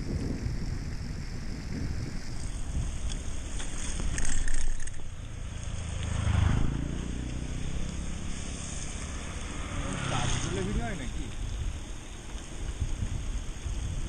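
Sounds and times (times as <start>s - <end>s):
bicycle tyre road noise: 0.0s - 14.0s
wind on microphone: 0.0s - 14.0s.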